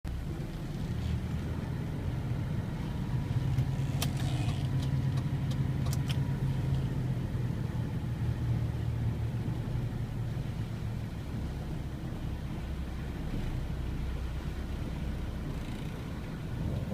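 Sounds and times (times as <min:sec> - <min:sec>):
car road rumble: 0:00.0 - 0:16.9.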